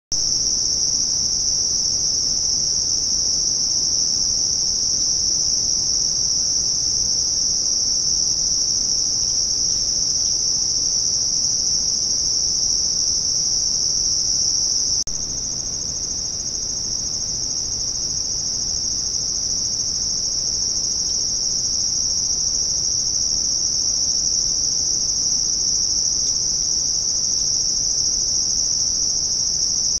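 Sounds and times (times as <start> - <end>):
crickets trilling: 0.2 - 30.0.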